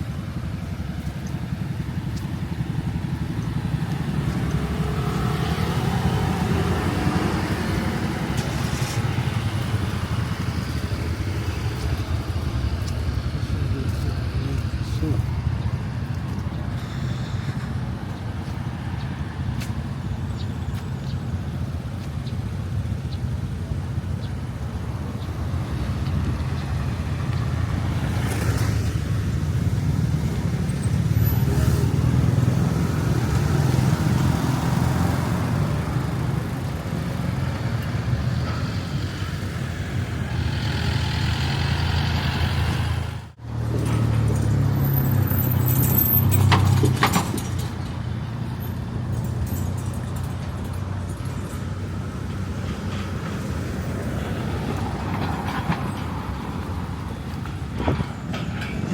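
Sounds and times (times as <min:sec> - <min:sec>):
cars and motorbikes passing: 0:00.0 - 0:58.9.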